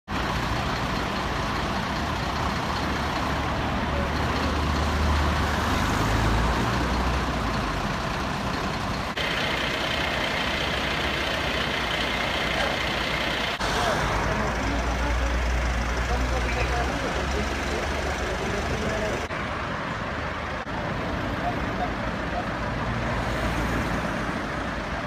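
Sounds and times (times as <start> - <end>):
street traffic: 0.0 - 25.0
diesel engines idling: 0.1 - 25.0.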